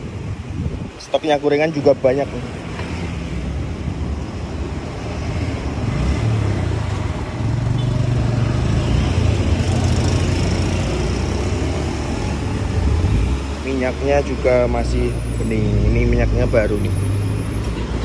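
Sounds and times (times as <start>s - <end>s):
vehicle engine and tyre rumble: 0.0s - 18.0s.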